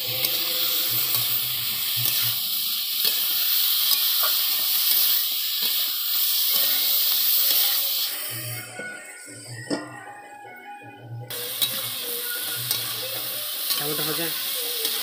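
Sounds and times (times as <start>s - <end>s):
chicken and onions sizzling: 0.0s - 10.0s, 11.3s - 15.0s.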